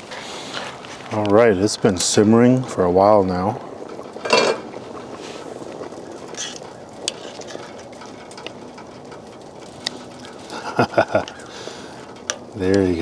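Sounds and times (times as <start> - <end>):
soup bubbling in a pot: 0.2 - 13.0.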